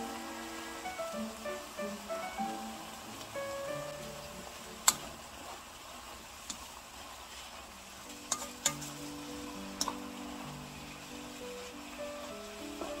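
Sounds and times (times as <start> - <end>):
cabbage sizzling in a pan: 0.0 - 13.0.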